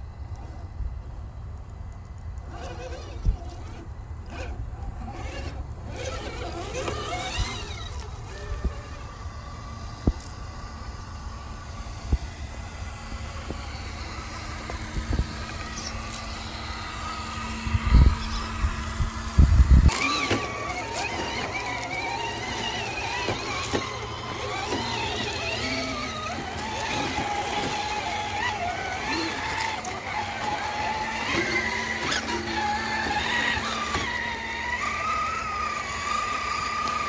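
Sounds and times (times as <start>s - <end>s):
electric motor whining: 0.0s - 37.0s.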